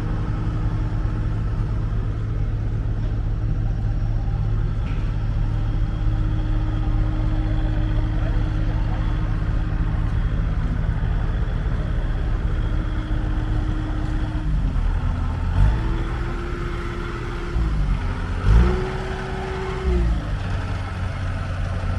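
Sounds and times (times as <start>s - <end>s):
loader diesel engine running: 0.0s - 21.9s.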